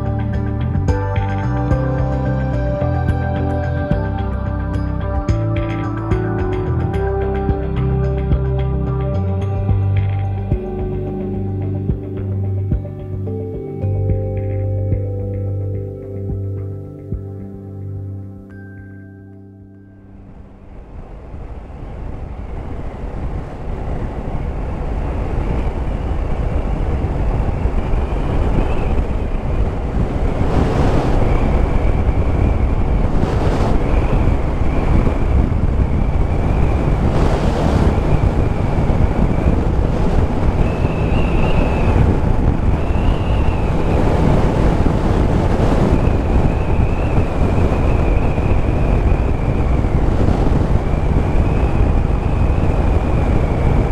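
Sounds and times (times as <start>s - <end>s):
wind rushing over microphone: 0.0s - 17.7s, 20.2s - 53.9s
motorcycle low rumble: 0.0s - 18.4s, 20.2s - 53.9s.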